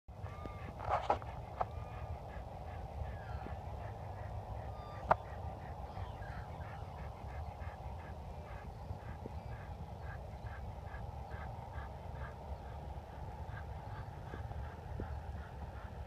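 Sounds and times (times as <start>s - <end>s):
birds calling: 0.1s - 16.0s
steady low rumble: 0.1s - 16.0s.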